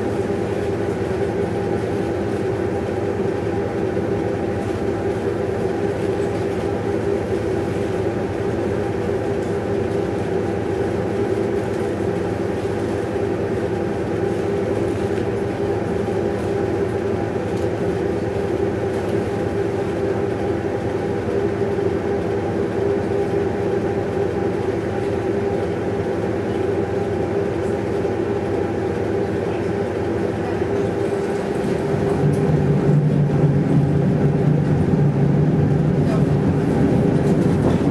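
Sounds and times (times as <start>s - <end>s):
tram equipment humming: 0.0s - 37.9s.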